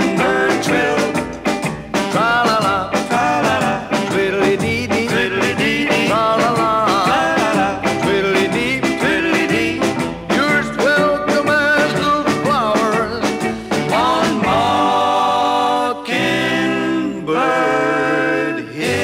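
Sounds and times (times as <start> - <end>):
person singing a melody: 0.0 - 1.2, 2.0 - 19.0.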